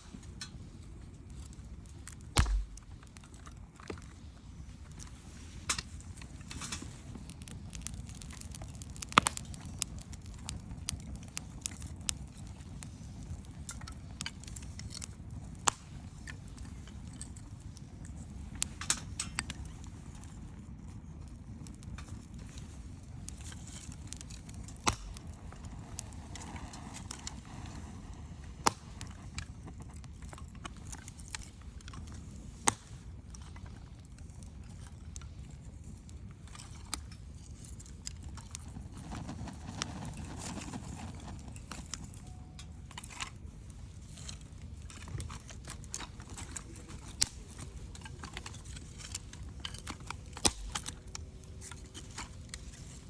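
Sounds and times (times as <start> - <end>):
fire pops and snaps: 0.0 - 53.0
wood fire rumbling: 0.0 - 53.0.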